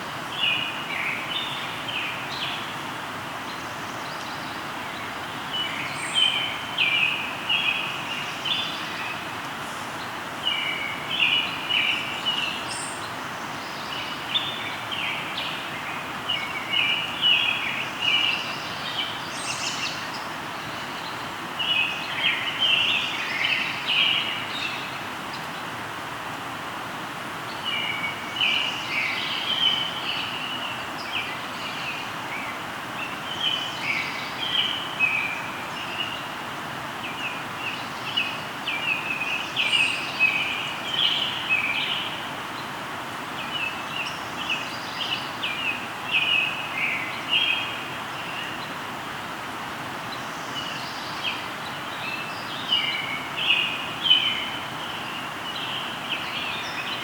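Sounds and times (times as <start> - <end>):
river flowing: 0.0 - 57.0
songbird singing: 0.0 - 57.0.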